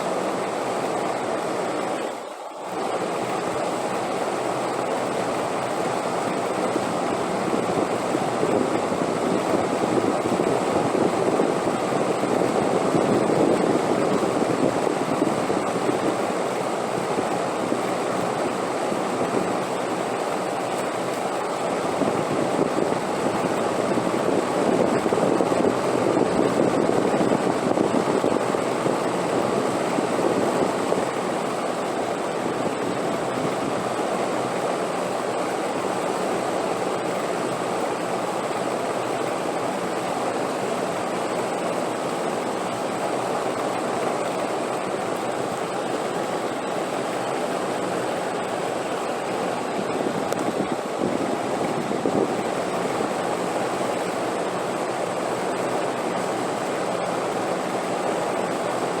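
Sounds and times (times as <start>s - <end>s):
rushing wind: 0.0s - 59.0s.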